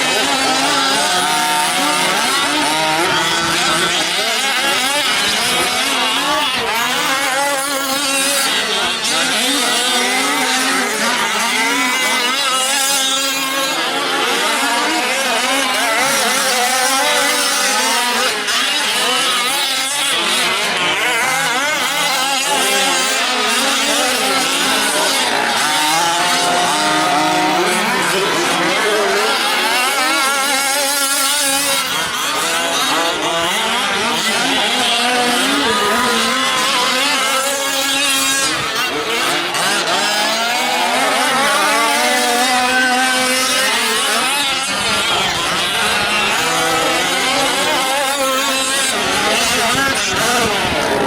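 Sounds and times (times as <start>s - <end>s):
small two-stroke engines racing: 0.0s - 51.0s.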